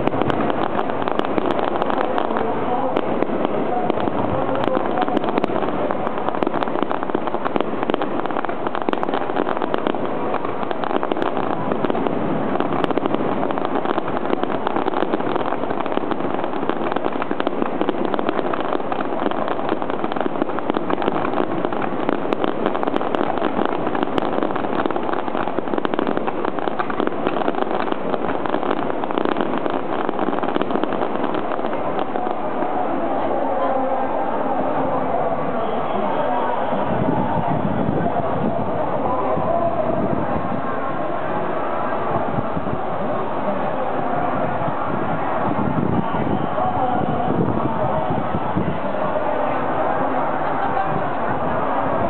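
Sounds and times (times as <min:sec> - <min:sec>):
fireworks crackling and popping: 0:00.0 - 0:52.0.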